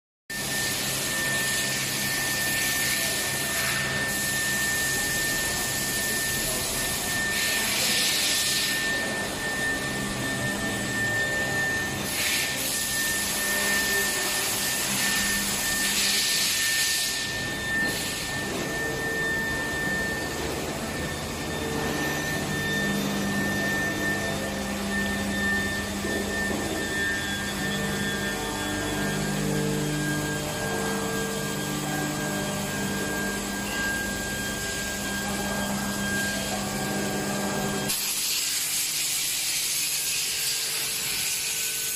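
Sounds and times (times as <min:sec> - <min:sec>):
steady high tone: 0:00.3 - 0:38.2
machine hum: 0:02.1 - 0:40.2.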